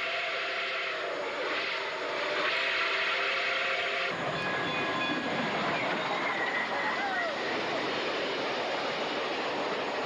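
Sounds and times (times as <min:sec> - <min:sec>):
steam locomotive passing roar: 0:00.0 - 0:10.0.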